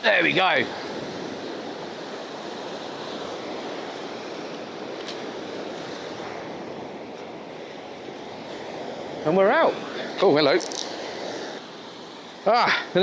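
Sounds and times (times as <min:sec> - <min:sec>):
sea surf washing on beach: 0:00.0 - 0:13.0.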